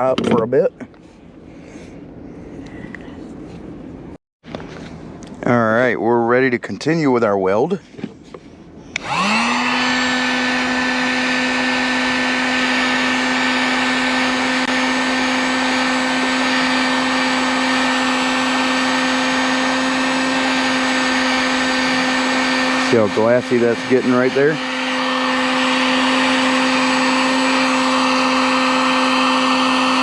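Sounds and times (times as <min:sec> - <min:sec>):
heat gun fan whine: 0:00.8 - 0:30.0.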